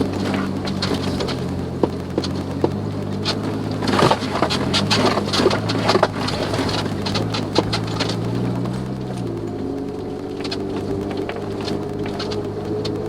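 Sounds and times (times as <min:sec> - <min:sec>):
car engine running: 0:00.0 - 0:13.0
gravel ticking against tyres: 0:00.0 - 0:13.0.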